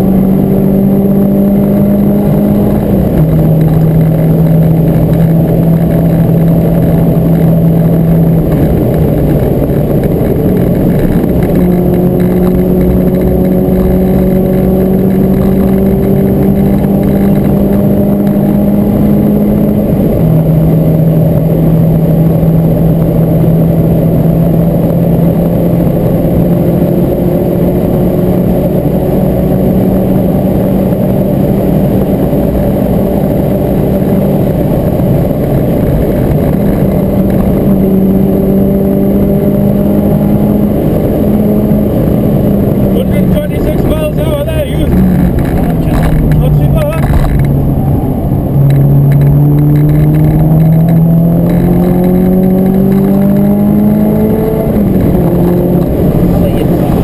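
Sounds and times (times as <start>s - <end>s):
car engine accelerating through gears: 0.0s - 57.0s
road and tyre noise: 0.0s - 57.0s.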